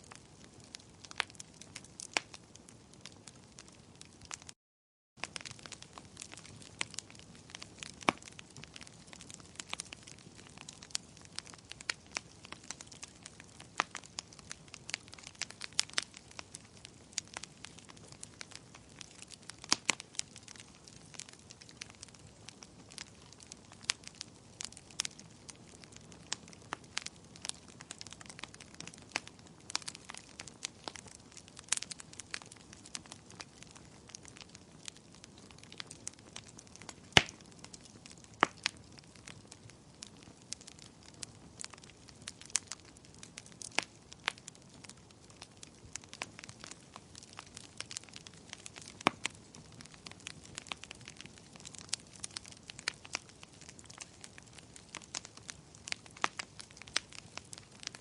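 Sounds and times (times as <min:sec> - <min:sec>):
wood fire crackling: 0:00.0 - 0:04.6, 0:05.2 - 0:58.0.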